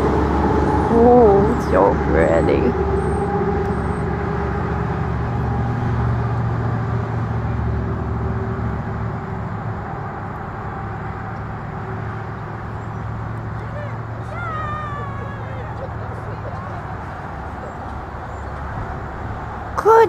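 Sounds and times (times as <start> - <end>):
motor vehicle hum: 0.0 - 20.0.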